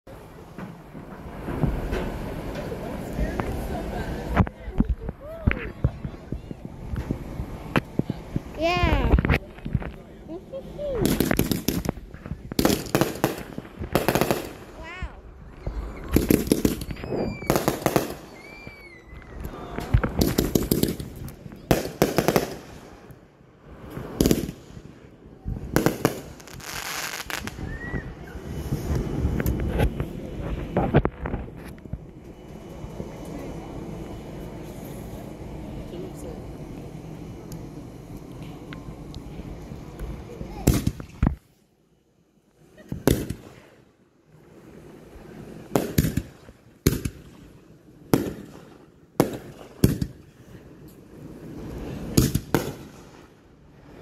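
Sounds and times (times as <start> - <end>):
firework bangs: 0.1 - 10.1, 10.8 - 35.3, 39.8 - 41.5, 42.7 - 43.8, 44.4 - 50.6, 51.2 - 53.9
fireworks crackling: 0.1 - 54.0.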